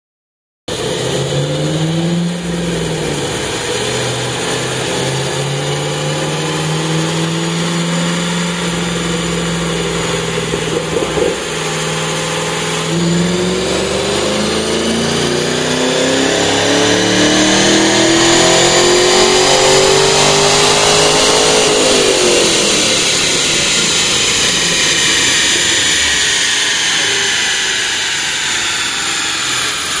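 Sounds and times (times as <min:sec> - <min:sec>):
car engine revving on dyno: 0:00.7 - 0:30.0.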